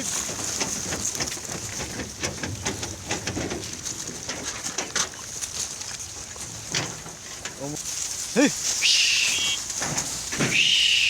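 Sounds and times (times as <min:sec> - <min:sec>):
pigs chewing feed: 0:00.0 - 0:11.0.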